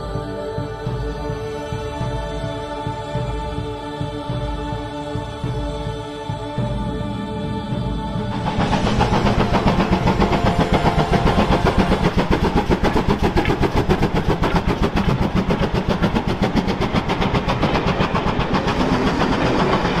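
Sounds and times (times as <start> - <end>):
locomotive engine pulsing: 0.0 - 20.0.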